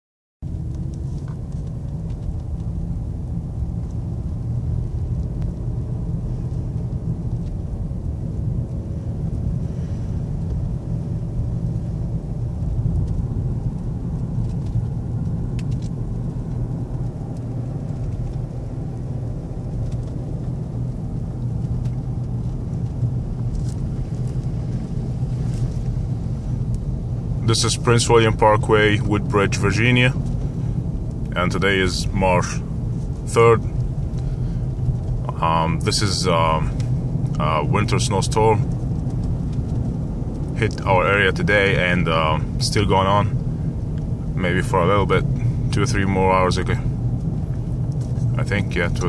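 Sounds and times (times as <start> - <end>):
car rumbling on road: 0.4 - 49.0.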